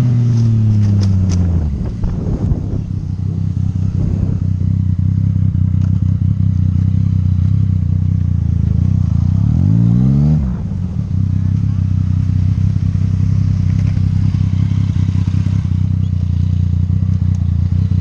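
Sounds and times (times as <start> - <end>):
motorcycle engine: 0.0 - 18.0.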